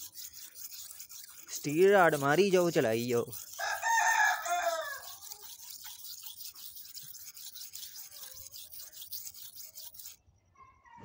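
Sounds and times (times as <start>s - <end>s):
knife on sharpening stone: 0.0s - 10.2s.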